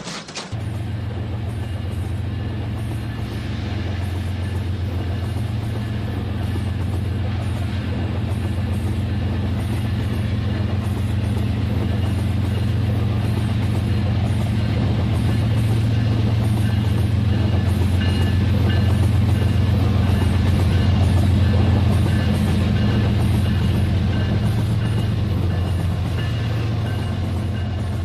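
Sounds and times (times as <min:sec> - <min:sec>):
wheels rattling on rails: 0:00.0 - 0:28.0.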